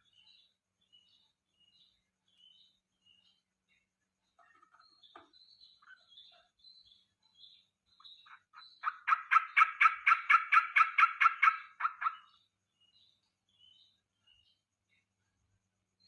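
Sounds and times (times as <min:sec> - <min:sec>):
faint high bird chirps: 0:00.0 - 0:16.0.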